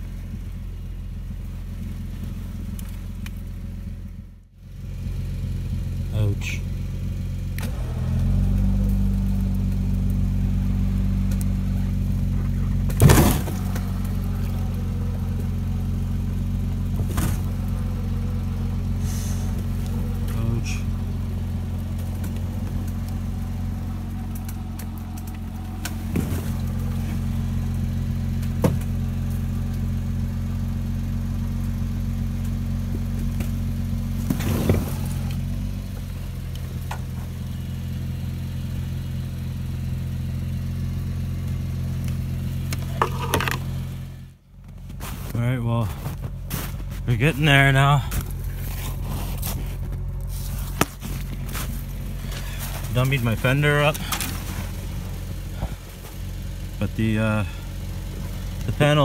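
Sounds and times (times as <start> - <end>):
truck engine and winch droning: 0.0 - 59.0.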